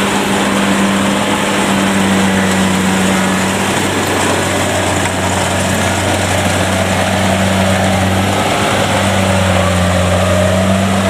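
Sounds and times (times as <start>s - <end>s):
diesel engine running under load: 0.0s - 11.0s
whir of threshing machinery: 0.0s - 11.0s.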